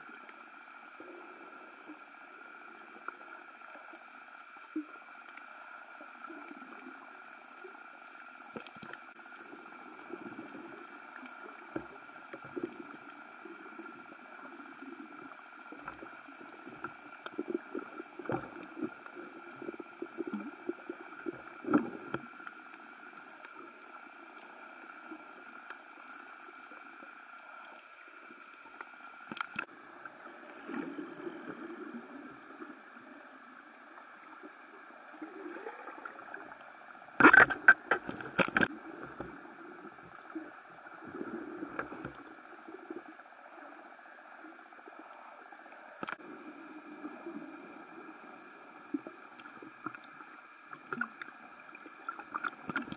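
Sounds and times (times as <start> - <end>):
underwater gurgling and sloshing: 0.0 - 52.9.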